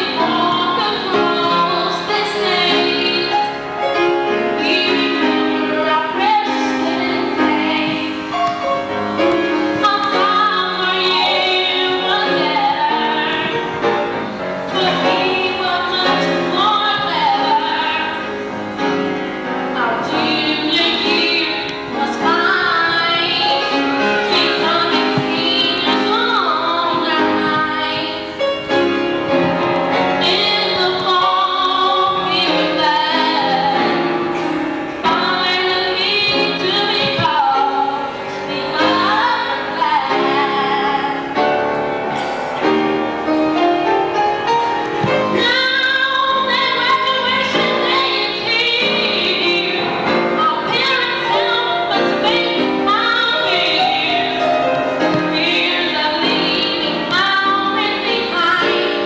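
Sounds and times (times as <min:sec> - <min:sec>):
woman singing into microphone: 0:00.0 - 0:18.6, 0:19.7 - 0:41.8, 0:44.6 - 0:59.0
musical accompaniment: 0:00.0 - 0:59.0.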